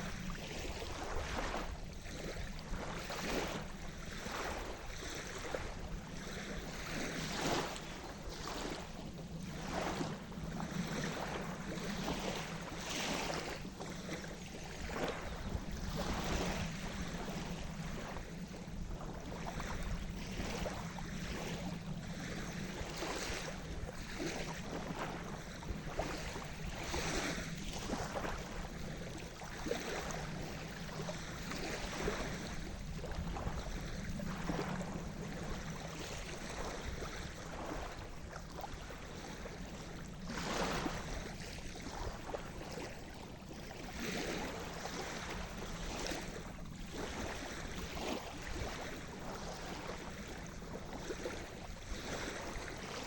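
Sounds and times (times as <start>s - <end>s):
small waves splashing on shore: 0.0s - 53.0s.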